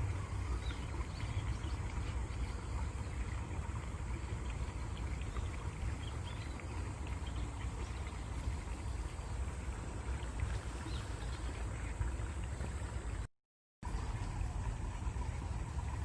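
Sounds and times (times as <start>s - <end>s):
small splashes and trickles: 0.0s - 16.0s
stream water rushing: 0.0s - 16.0s.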